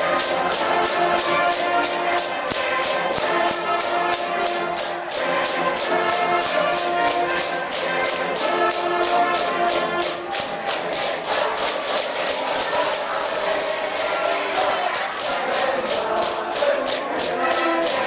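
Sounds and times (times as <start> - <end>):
brass band playing: 0.0 - 18.0
steady drum beat: 0.0 - 18.0.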